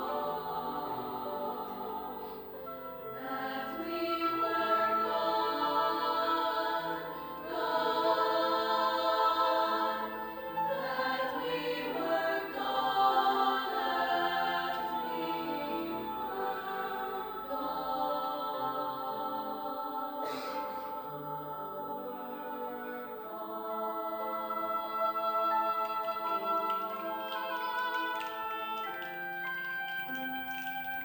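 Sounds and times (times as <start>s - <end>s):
choir singing held chords: 0.0s - 30.3s.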